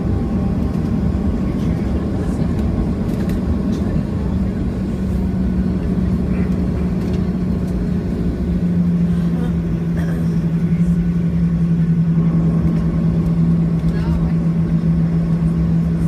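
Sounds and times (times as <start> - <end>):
aircraft cabin hum and rumble: 0.0 - 16.0.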